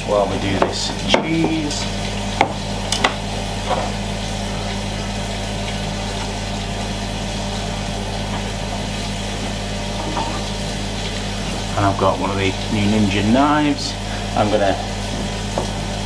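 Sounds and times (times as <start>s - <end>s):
grill fan humming: 0.0s - 16.0s.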